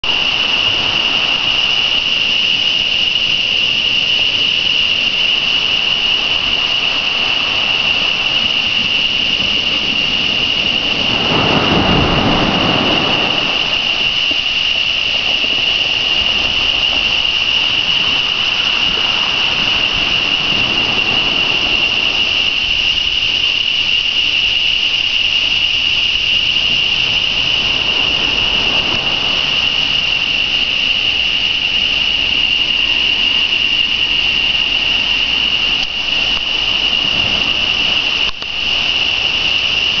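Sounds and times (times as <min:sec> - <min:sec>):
insects buzzing: 0:00.0 - 0:40.0
low rushing noise: 0:00.0 - 0:40.0.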